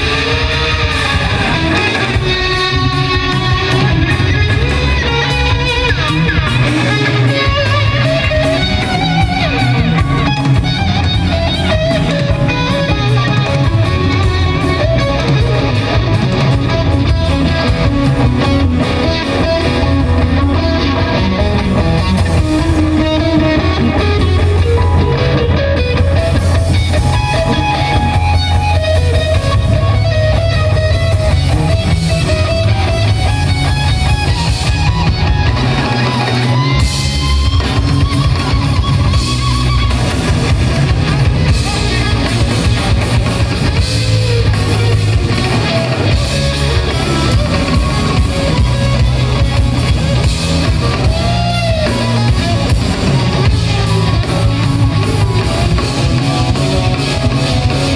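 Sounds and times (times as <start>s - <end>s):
electric guitar solo: 0.0s - 57.9s.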